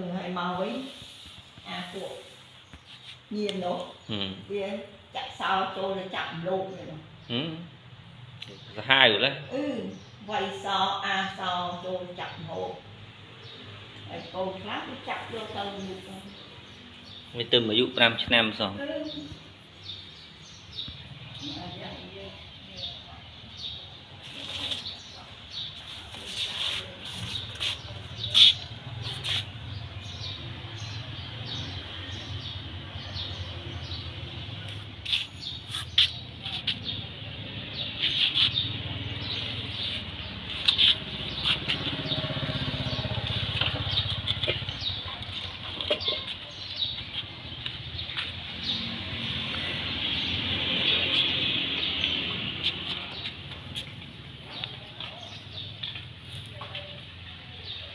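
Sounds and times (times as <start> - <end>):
birds chirping: 0.1 - 57.9.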